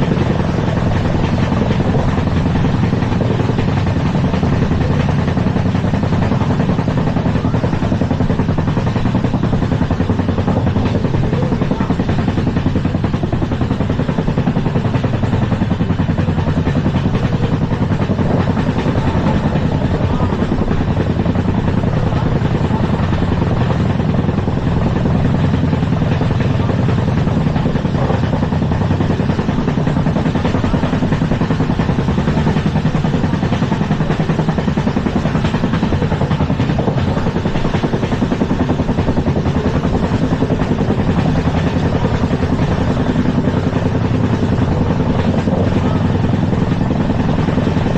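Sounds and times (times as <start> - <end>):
train wheels running on rails: 0.0 - 47.9.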